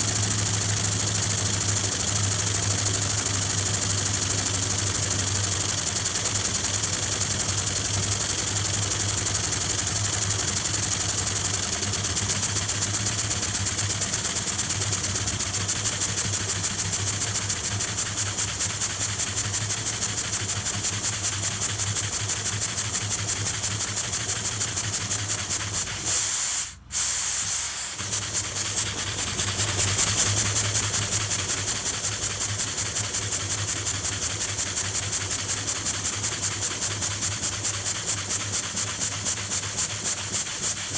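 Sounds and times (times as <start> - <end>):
air engine hissing puffs: 0.0 - 40.9.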